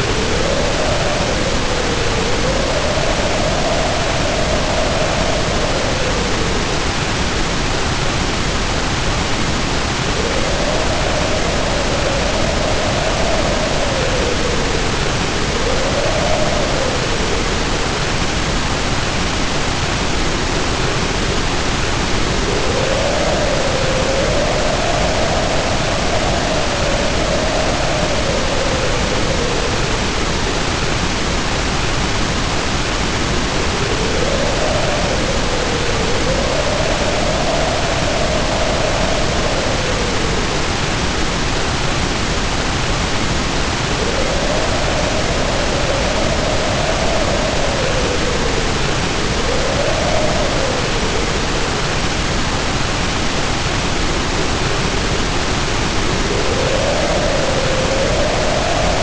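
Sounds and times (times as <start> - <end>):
heavy rain pouring: 0.0 - 59.0
wind howling: 0.0 - 59.0.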